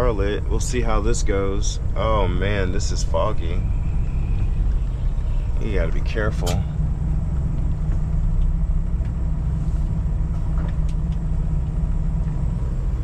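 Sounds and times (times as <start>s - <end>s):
truck engine rumble: 0.0s - 13.0s.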